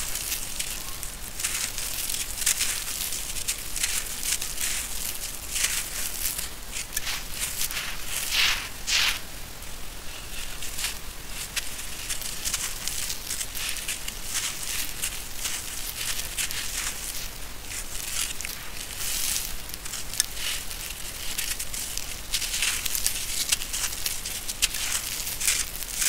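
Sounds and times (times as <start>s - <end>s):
gritty crunching of lumps: 0.0s - 9.4s, 10.1s - 26.0s
sand pouring onto gravel: 0.0s - 9.6s, 10.4s - 26.0s.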